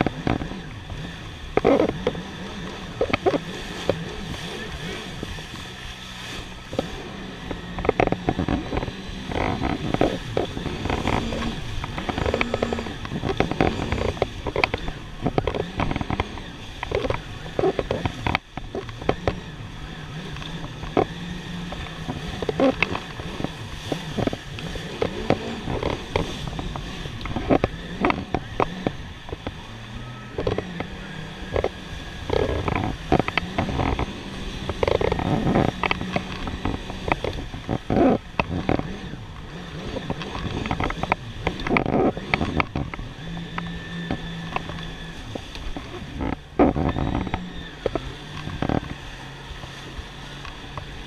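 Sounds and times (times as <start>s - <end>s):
jet ski engine humming: 0.0s - 51.0s
wind: 0.0s - 51.0s.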